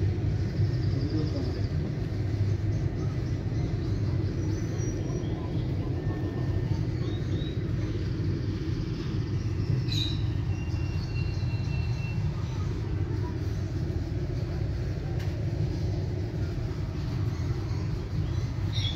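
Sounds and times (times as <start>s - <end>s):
low background rumble: 0.0s - 18.9s.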